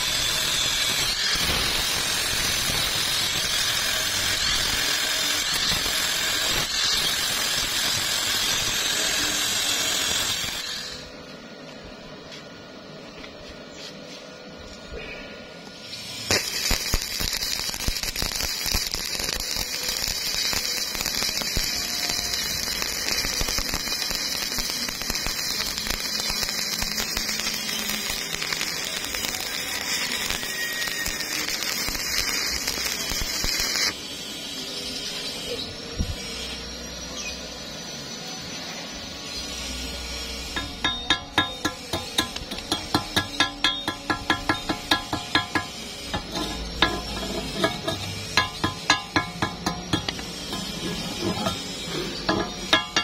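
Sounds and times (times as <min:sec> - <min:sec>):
welding arc crackling: 0:00.0 - 0:11.2, 0:15.8 - 0:36.9, 0:39.0 - 0:53.0.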